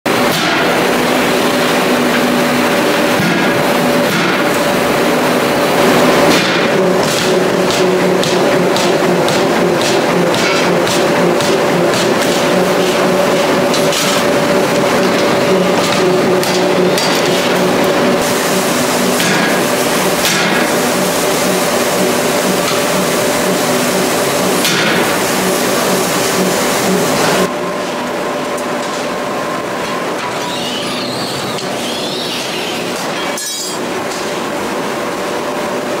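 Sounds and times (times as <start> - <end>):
machinery hum: 0.1 - 36.0.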